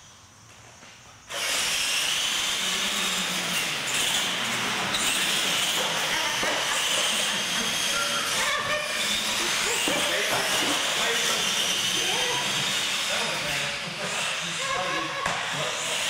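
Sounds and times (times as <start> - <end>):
high motor whine: 1.3 - 16.0.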